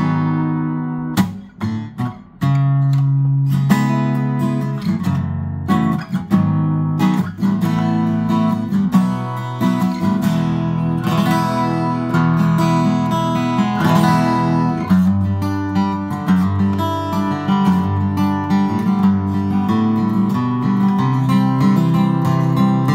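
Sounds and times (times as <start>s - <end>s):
acoustic guitar strummed and picked: 0.0s - 22.9s.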